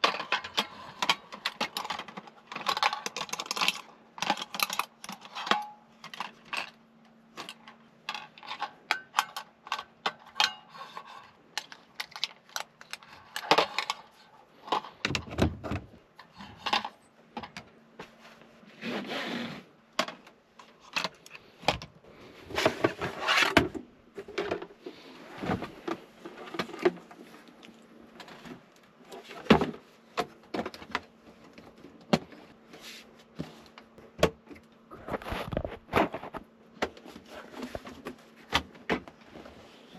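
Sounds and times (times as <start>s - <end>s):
rustling and scraping: 0.0s - 17.1s, 18.0s - 34.0s, 34.9s - 39.9s
faint steady hum: 0.0s - 39.9s.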